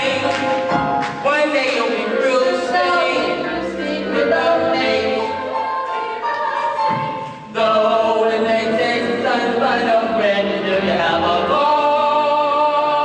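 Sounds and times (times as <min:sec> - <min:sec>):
chorus singing with accompaniment: 0:00.0 - 0:13.0.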